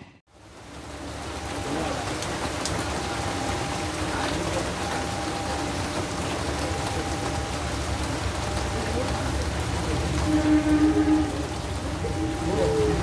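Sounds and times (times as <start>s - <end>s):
steady rain on foliage: 0.3s - 13.0s.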